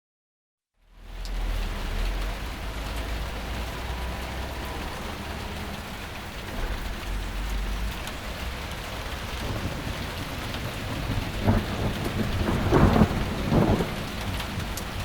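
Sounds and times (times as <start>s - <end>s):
steady rain hiss: 0.9s - 15.0s
low rumble: 1.2s - 14.8s.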